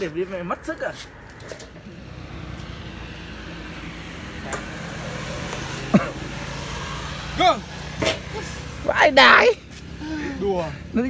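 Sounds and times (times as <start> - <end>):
vehicle engine running: 1.7 - 11.0.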